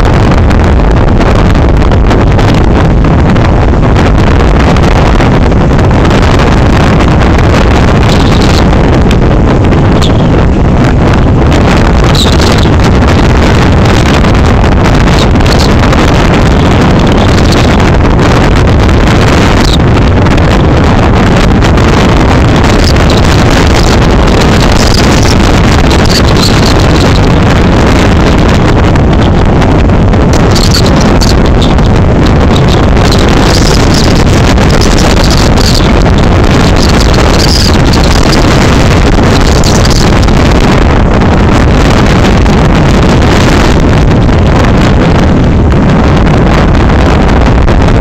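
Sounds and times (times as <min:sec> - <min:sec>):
large waves breaking: 0:00.0 - 0:48.0
wind blasting microphone: 0:00.0 - 0:48.0.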